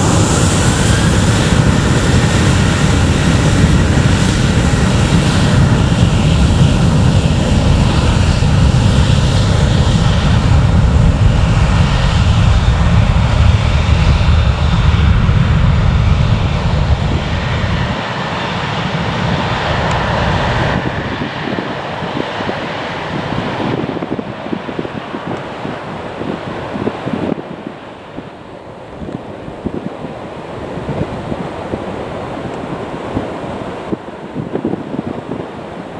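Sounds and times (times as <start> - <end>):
jet engines roaring at takeoff: 0.0 - 35.9
wind buffeting microphone: 0.0 - 35.9.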